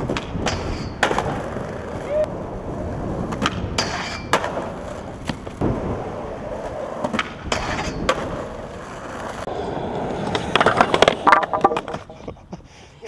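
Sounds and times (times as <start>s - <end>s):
skateboard scrape: 0.0s - 12.3s
skateboard clacks: 0.0s - 12.4s
skateboard wheels rolling on concrete: 0.0s - 13.0s.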